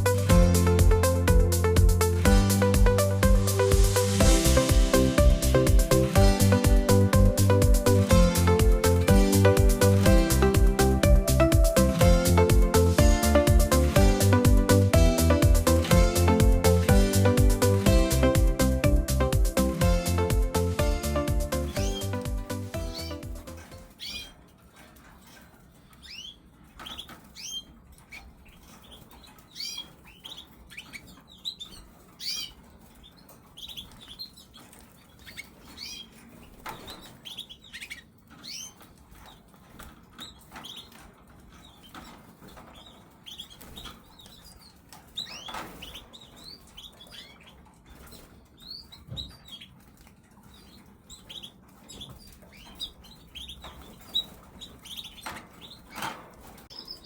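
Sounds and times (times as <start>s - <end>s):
canaries chirping: 0.0s - 57.0s.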